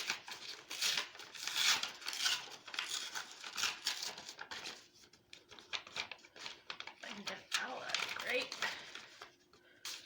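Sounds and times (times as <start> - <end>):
paper and packaging rustling: 0.0 - 10.0.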